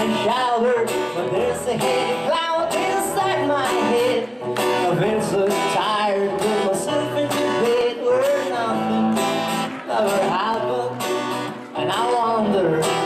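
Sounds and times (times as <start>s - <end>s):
man singing pop melody: 0.0s - 13.0s
strummed acoustic guitar: 0.0s - 13.0s.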